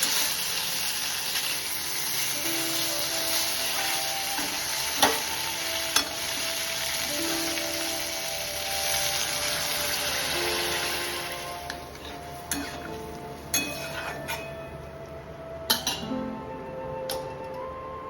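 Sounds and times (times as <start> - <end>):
food sizzling in oil: 0.0 - 14.5.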